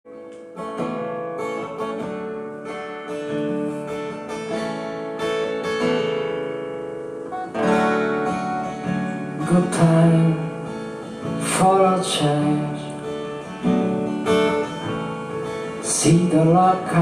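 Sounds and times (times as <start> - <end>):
acoustic guitar chords: 0.1 - 17.0.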